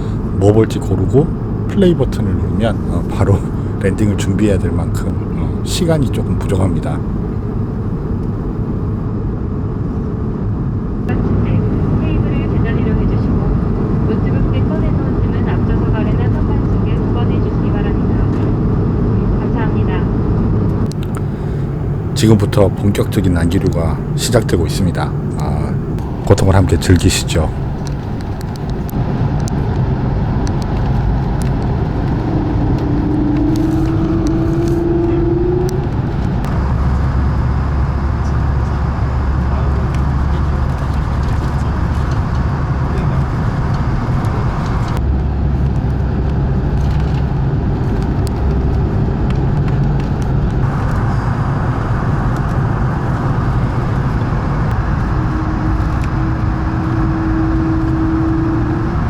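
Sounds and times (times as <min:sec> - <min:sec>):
faint steady hum: 0:00.0 - 0:09.1, 0:19.4 - 0:59.0
airflow and engine rush: 0:00.0 - 0:59.0
low rumble: 0:00.0 - 0:59.0.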